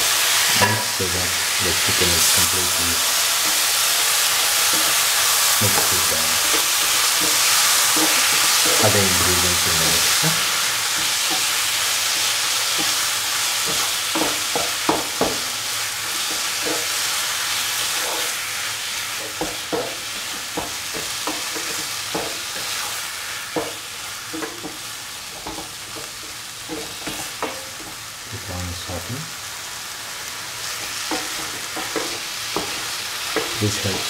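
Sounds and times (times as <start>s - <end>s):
chicken sizzling in a pan: 0.0s - 34.0s.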